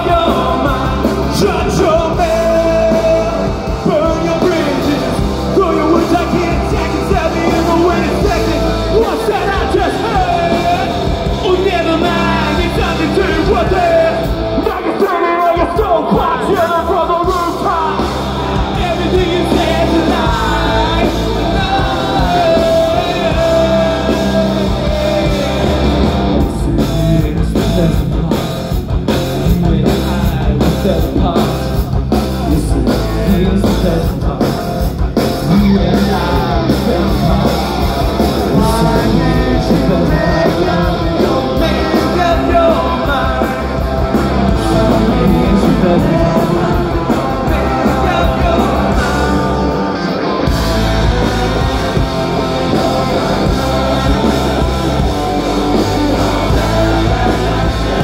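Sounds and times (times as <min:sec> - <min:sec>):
lead vocal singing: 0:00.0 - 0:58.0
rock band playing live: 0:00.0 - 0:58.0.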